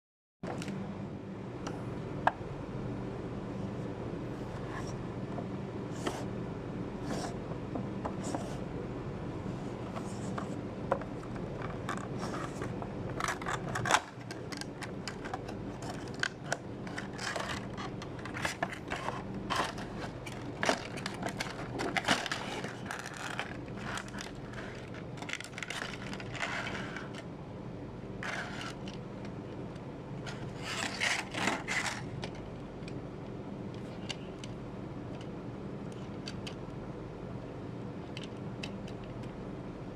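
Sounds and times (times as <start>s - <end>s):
steady low hum: 0.4s - 39.9s.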